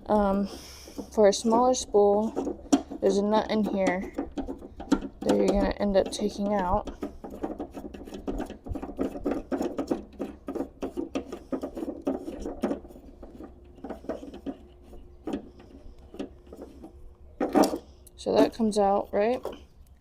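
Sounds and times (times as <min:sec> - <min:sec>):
rapid clicking and rattling: 0:00.0 - 0:19.6.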